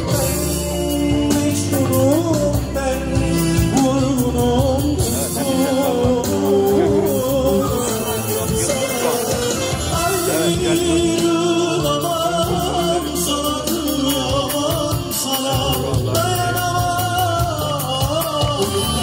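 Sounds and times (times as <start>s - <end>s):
amplified band playing: 0.0s - 19.0s
man singing into a microphone: 0.0s - 19.0s.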